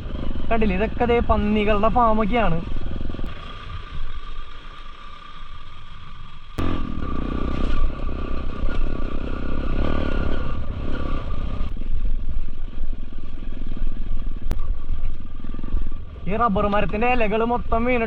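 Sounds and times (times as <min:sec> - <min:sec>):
muffled motorcycle engine: 0:00.0 - 0:18.0.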